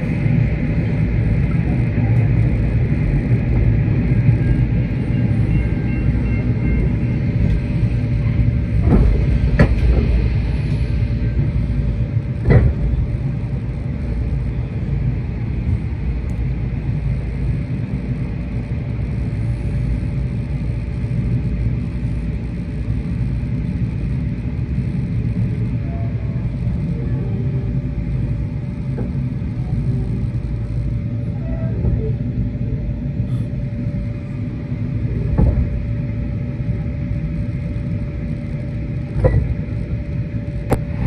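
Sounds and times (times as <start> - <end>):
train carriage rumble: 0.0 - 41.0.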